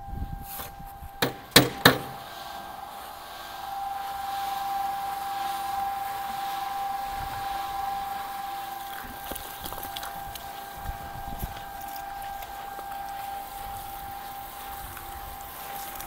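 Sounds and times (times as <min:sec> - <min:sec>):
plastering machine whine: 0:00.0 - 0:16.0.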